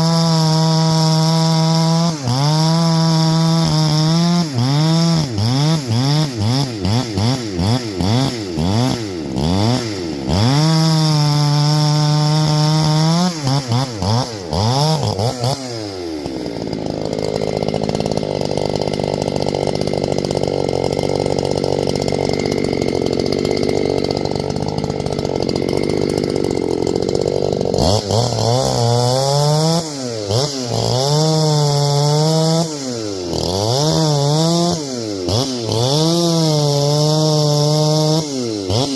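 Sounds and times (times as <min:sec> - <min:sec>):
chainsaw revving and cutting: 0:00.0 - 0:38.9.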